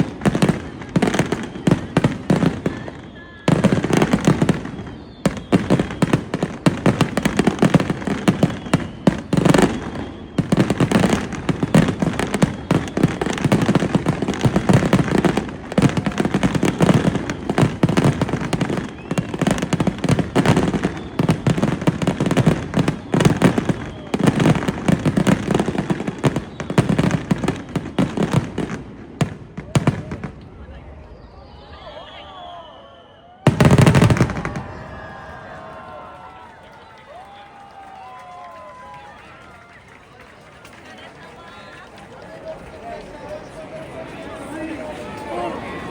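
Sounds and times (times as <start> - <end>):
fireworks bangs and crackles: 0.0 - 32.2, 33.4 - 45.9.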